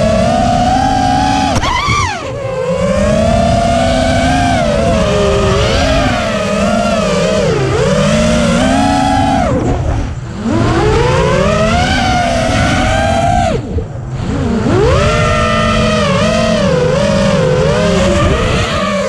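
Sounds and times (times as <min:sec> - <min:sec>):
drone motors whining: 0:00.0 - 0:19.0
low wind rush: 0:00.0 - 0:19.0.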